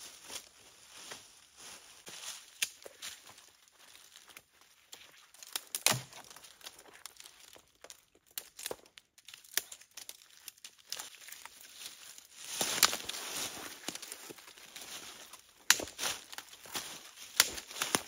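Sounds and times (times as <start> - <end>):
footsteps crunching dry leaves: 0.0 - 18.0
sticks cracking and snapping: 2.4 - 18.0.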